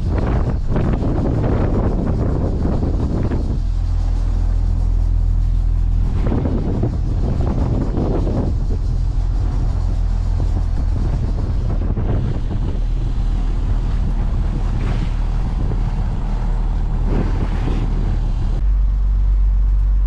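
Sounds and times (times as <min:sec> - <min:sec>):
wind buffeting microphone: 0:00.0 - 0:18.9
boat engine running: 0:00.0 - 0:20.0.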